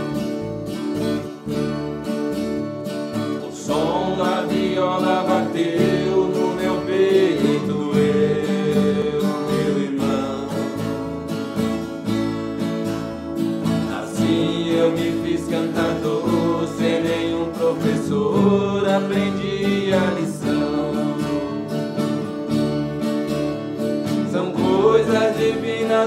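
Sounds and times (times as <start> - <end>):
acoustic guitars plucking: 0.0 - 26.0
electric bass: 0.0 - 26.0.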